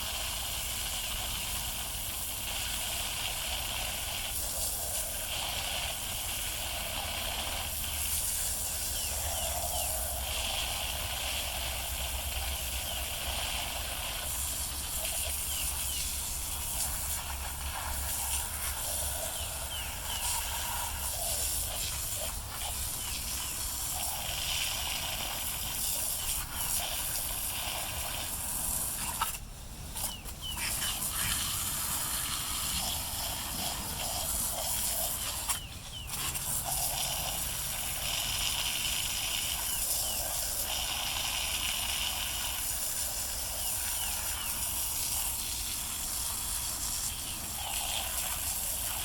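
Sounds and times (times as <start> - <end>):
water jet spraying: 0.0 - 49.0.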